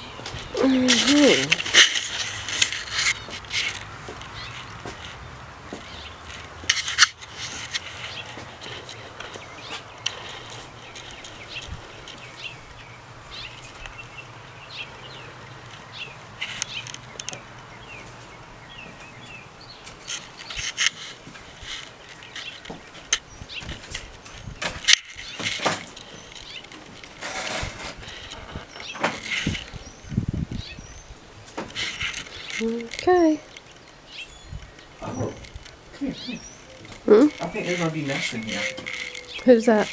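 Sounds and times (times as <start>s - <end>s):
rustles: 0.0s - 39.9s
small birds chirping: 0.0s - 39.9s.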